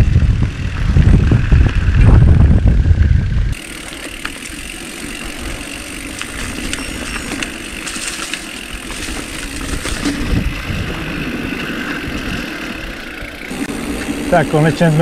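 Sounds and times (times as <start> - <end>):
mountain bike rumbling on rough trail: 0.0 - 15.0.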